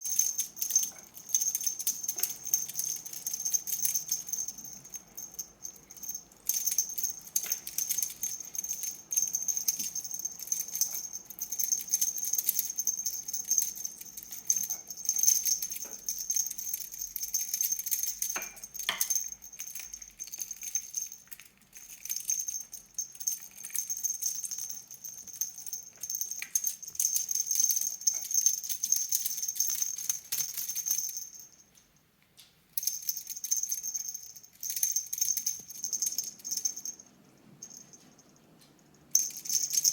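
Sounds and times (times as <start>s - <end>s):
small bell jingling: 0.0s - 31.9s, 32.7s - 39.9s.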